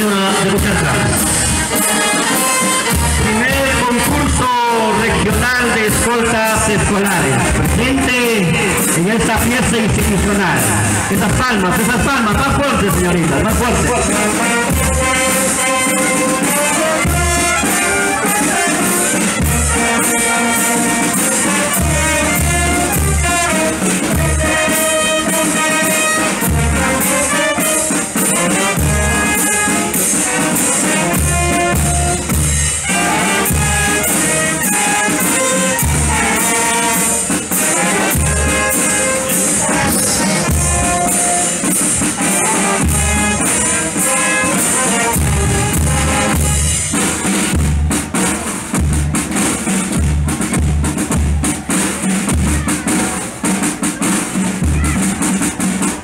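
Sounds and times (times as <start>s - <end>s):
trumpets and trombones playing: 0.0s - 56.0s
low drum beat: 0.1s - 56.0s.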